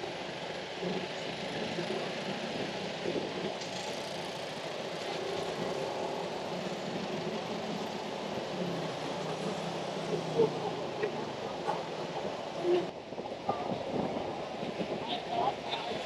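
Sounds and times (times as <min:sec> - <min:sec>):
street traffic passing: 0:00.0 - 0:16.0.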